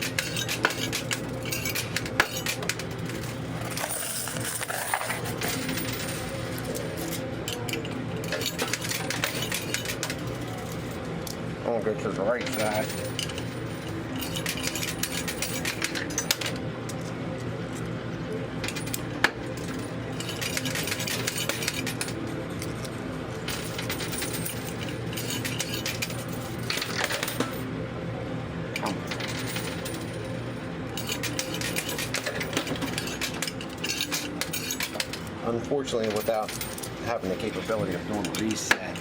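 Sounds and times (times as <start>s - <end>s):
coins clinking in coin pusher: 0.0s - 11.4s, 12.0s - 17.9s, 18.6s - 27.7s, 28.8s - 39.0s
steady hum: 0.0s - 39.0s.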